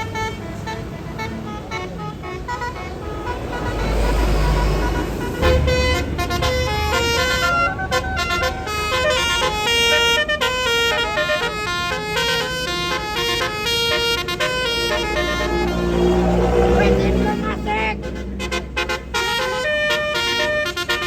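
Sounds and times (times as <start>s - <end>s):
bus engine rumble: 0.0s - 21.0s
multi-tone bus horn melody: 0.0s - 21.0s.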